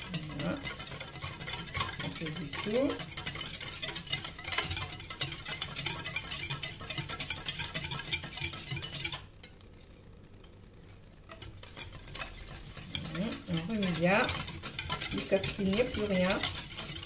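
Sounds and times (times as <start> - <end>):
whisk clicking against metal bowl: 0.0 - 9.6, 11.3 - 17.0.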